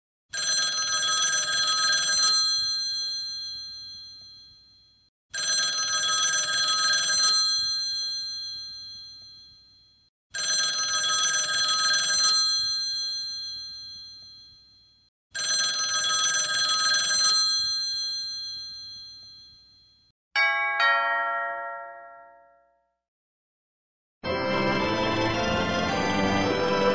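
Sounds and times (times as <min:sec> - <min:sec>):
telephone bell ringing: 0:00.3 - 0:22.8.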